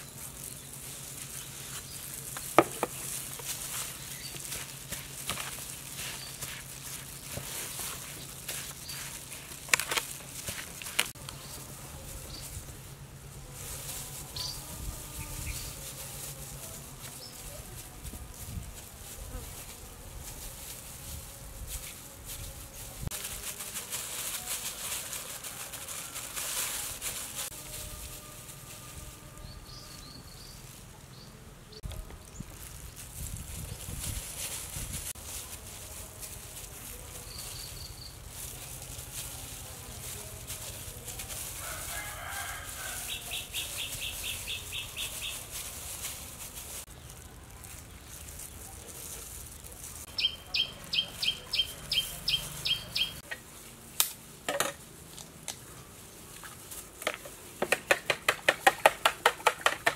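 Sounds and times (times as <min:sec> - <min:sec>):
insects buzzing: 0:00.0 - 0:48.4.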